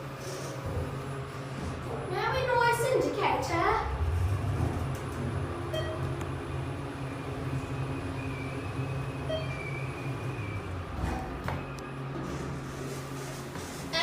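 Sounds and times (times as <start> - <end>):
elevator car hum and rumble: 0.0 - 14.0.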